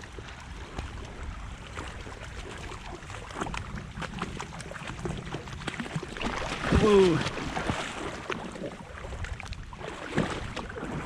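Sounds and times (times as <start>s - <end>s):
water sloshing from wading: 0.0s - 11.0s.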